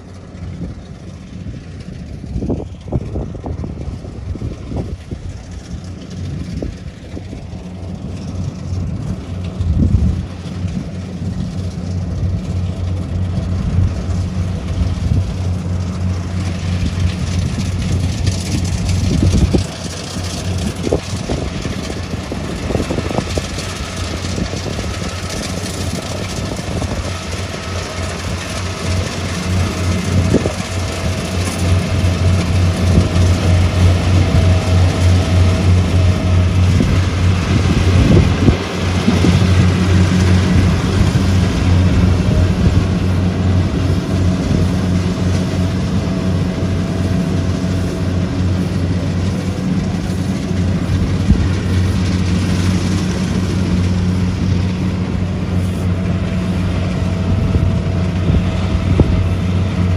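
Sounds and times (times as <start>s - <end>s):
diesel engine running: 0.0s - 59.9s
machinery clattering: 4.4s - 59.9s.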